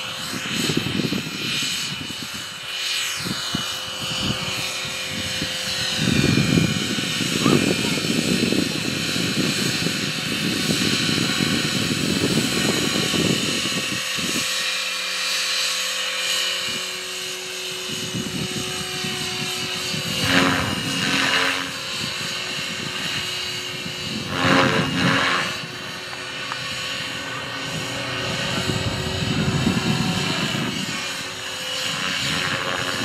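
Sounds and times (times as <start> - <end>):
rc helicopter whine: 0.0 - 33.0.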